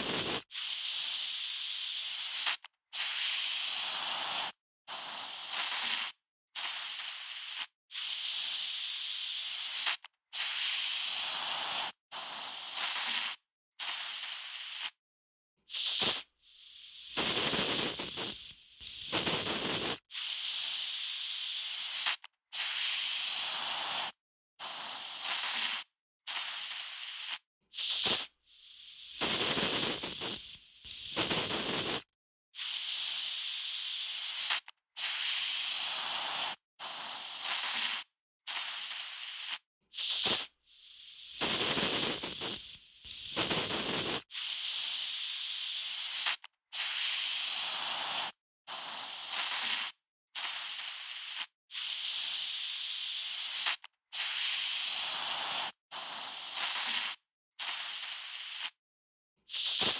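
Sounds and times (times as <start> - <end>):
aerosol spray can hissing: 0.0 - 15.0, 15.7 - 58.8, 59.5 - 59.9.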